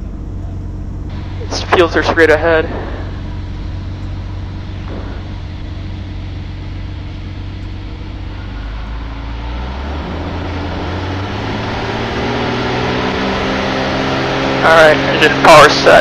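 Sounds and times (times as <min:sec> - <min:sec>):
aircraft engine and propeller droning: 0:00.0 - 0:16.0.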